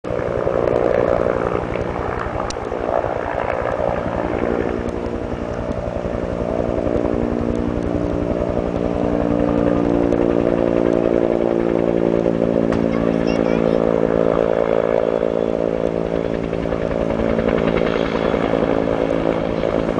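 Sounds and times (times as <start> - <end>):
turbine whine: 0.0 - 19.9
helicopter rotor chop: 0.1 - 19.9.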